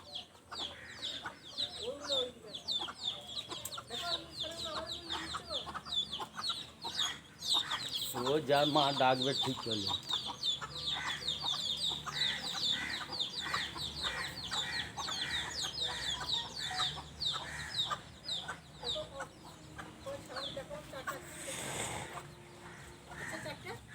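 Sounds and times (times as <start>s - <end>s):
chicks peeping: 0.0s - 23.7s
hen clucking: 0.0s - 23.9s.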